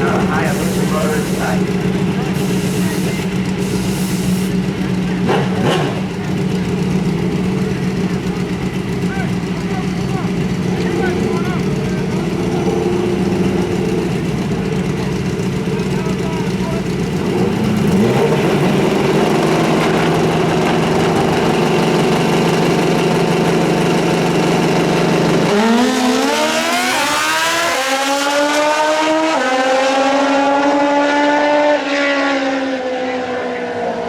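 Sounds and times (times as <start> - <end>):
motorcycle engine revving and accelerating: 0.0 - 34.0.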